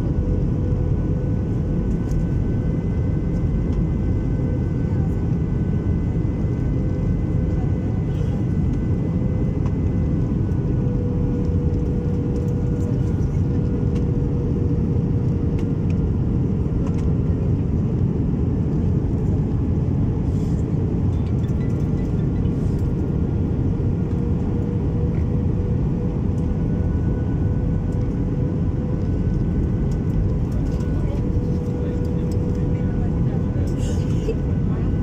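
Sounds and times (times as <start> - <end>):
constant hum tone: 0.0 - 35.0
jet engines rumbling: 0.0 - 35.0.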